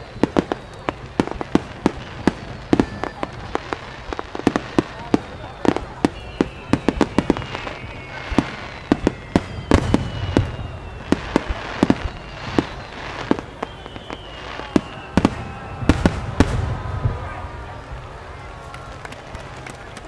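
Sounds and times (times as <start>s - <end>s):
firework whistles gliding down: 0.0s - 18.0s
fireworks bangs: 0.0s - 20.0s.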